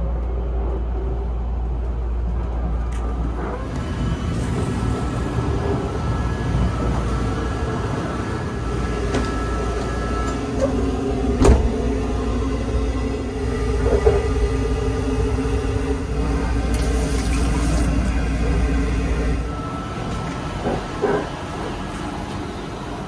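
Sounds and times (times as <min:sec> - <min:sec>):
train running low rumble: 0:00.0 - 0:23.0.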